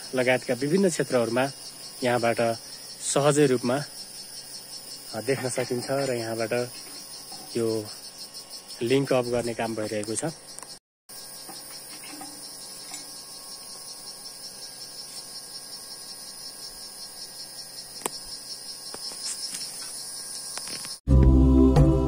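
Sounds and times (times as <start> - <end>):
insect chorus trilling: 0.0 - 21.0.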